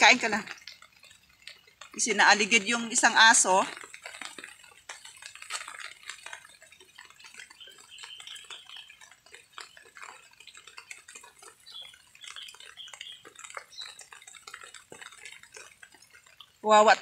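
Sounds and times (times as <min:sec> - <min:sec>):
cat chewing and lapping food: 0:00.0 - 0:16.6.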